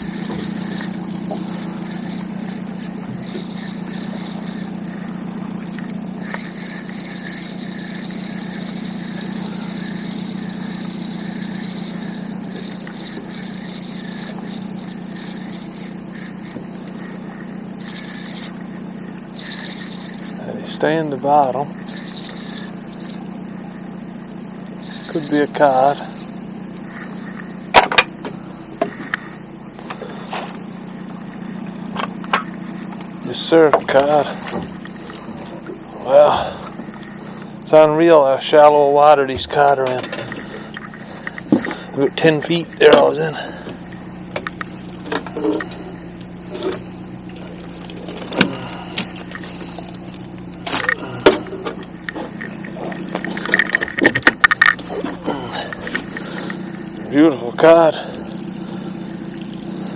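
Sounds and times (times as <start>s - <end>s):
boat motor running: 0.0s - 59.9s.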